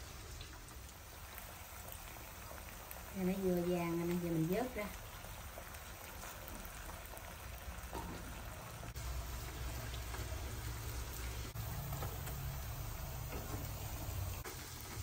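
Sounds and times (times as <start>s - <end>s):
oil sizzling in frying pan: 0.0s - 15.0s.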